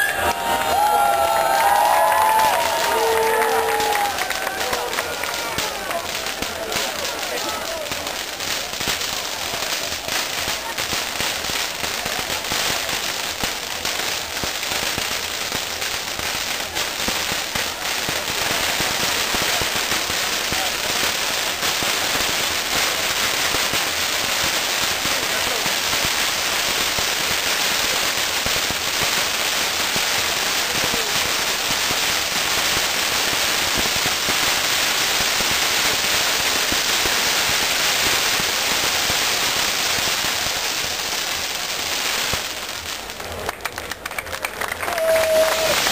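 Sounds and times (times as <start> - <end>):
fireworks crackling and hissing: 0.0 - 45.9.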